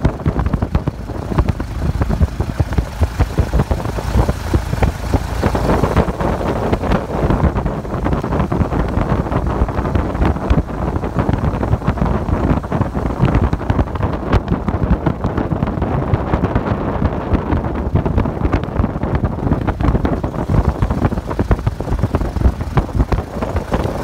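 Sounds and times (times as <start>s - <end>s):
old car engine knocking: 0.0s - 16.7s, 17.6s - 24.0s
wind buffeting microphone: 0.0s - 24.0s.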